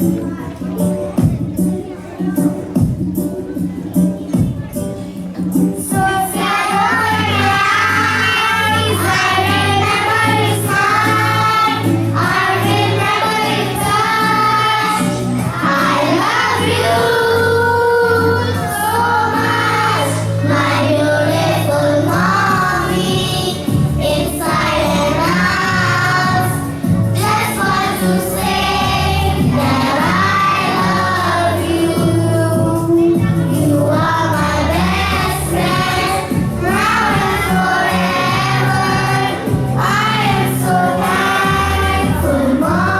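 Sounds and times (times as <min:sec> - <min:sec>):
instrumental accompaniment with bass: 0:00.0 - 0:42.9
children singing: 0:05.7 - 0:42.9.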